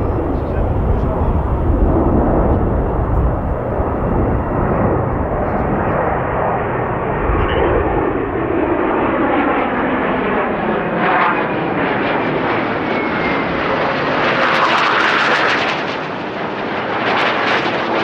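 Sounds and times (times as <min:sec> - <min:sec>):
fighter jets roaring overhead: 0:00.0 - 0:18.0.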